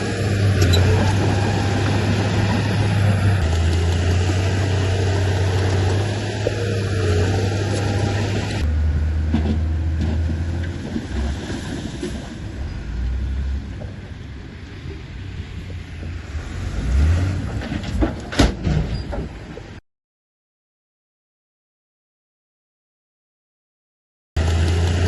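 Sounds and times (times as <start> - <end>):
heavy machinery diesel engine: 0.0 - 19.6, 24.4 - 25.0.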